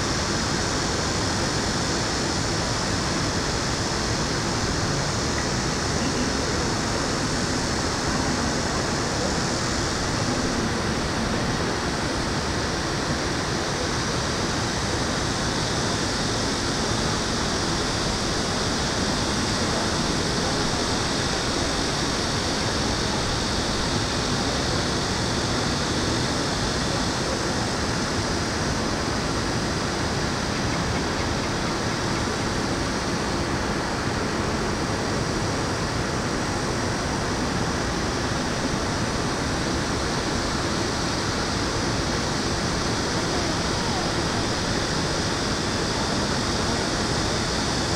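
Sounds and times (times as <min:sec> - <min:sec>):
city ambience rushing noise: 0:00.0 - 0:47.9.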